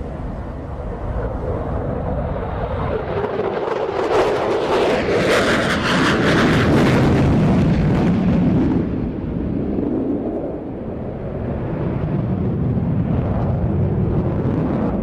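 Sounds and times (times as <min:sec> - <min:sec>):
jet engine roaring with crackling: 0:00.0 - 0:15.0.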